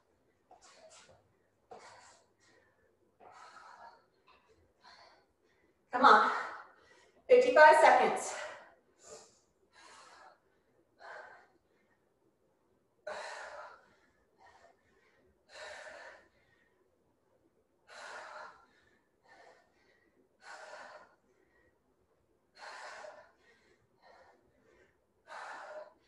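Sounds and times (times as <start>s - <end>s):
woman breathing hard: 0.0s - 7.3s, 8.3s - 12.2s, 13.0s - 17.0s, 17.8s - 26.0s.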